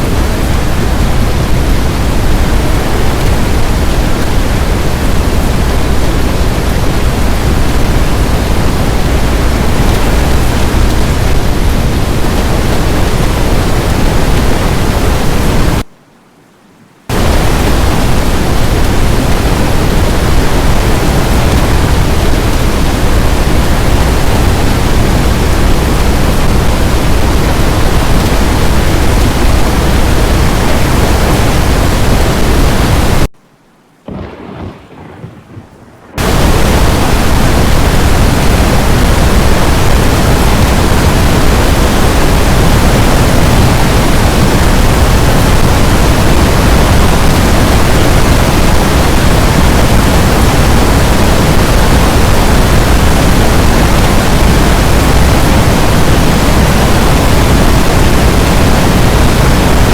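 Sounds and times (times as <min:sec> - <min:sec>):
storm wind and rain: 0:00.0 - 0:16.0, 0:16.6 - 0:59.9.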